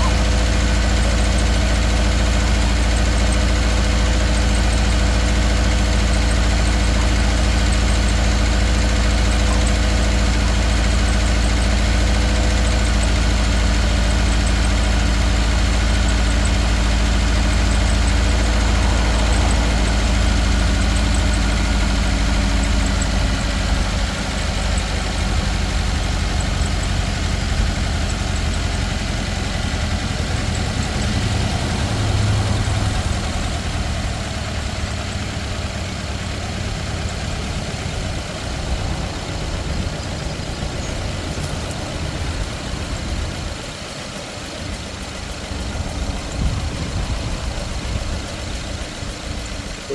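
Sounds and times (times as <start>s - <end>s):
car engine idling with misfire: 0.0s - 49.9s.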